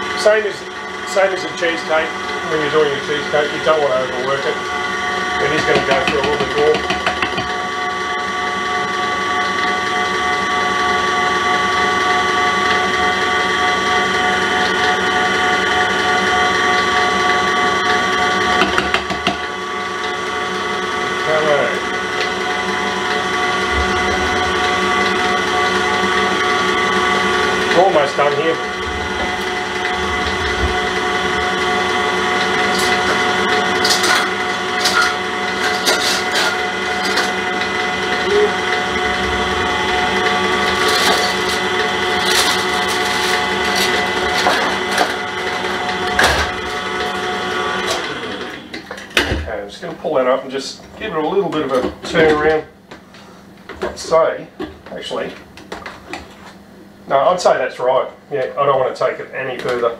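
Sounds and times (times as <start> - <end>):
stand mixer whisking: 0.0 - 52.7.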